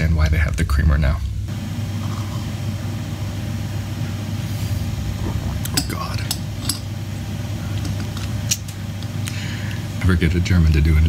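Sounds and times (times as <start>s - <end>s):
train carriage hum: 1.4s - 11.0s.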